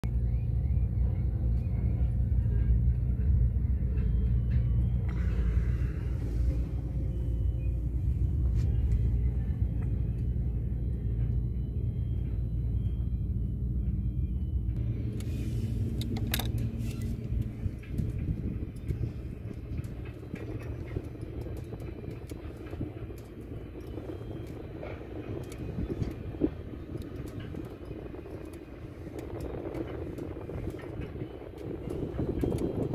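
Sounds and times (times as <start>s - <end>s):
compressor rumbling: 0.0s - 32.9s.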